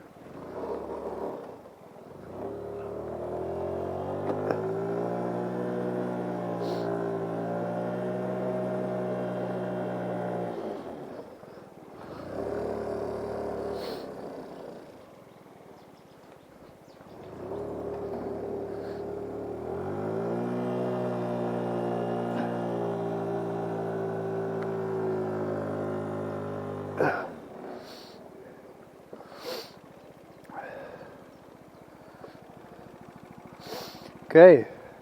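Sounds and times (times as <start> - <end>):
scooter engine revving: 0.2 - 15.1, 17.1 - 28.5, 29.3 - 35.0.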